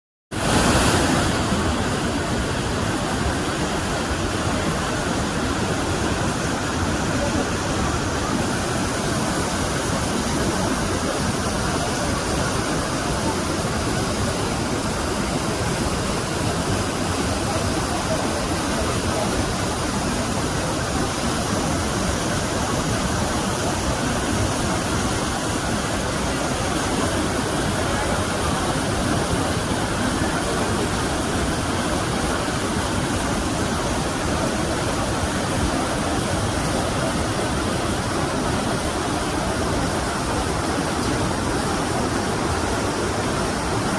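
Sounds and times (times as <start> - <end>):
waterfall rushing: 0.4 - 43.9.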